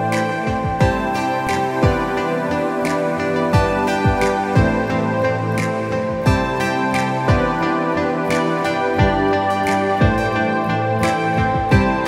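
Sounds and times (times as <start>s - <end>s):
soft low beat: 0.0s - 10.6s, 11.4s - 12.0s
layered instrumental chords: 0.0s - 12.0s.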